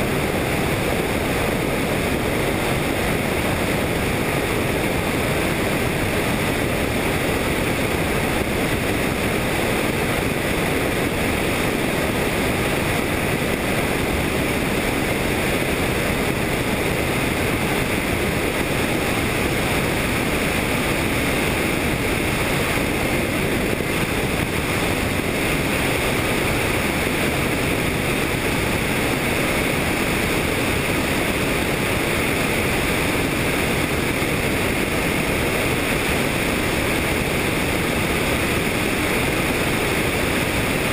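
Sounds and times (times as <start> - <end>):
helicopter engine and rotor: 0.0 - 40.9
wind rushing over microphone: 0.0 - 40.9.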